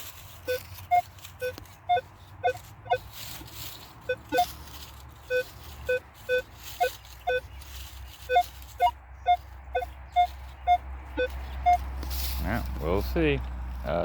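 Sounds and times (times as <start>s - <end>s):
metal detector beeps: 0.0s - 11.9s.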